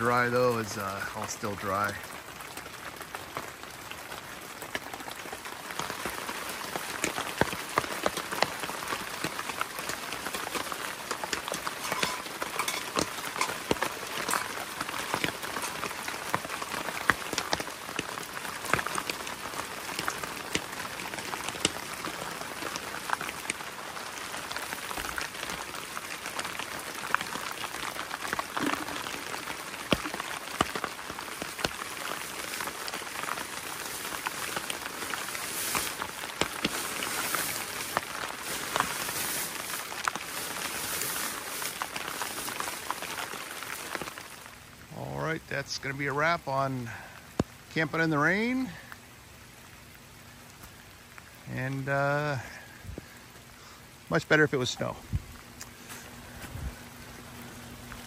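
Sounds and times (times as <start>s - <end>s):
sharp raindrop hits: 0.0s - 53.5s
rain falling: 0.0s - 58.0s.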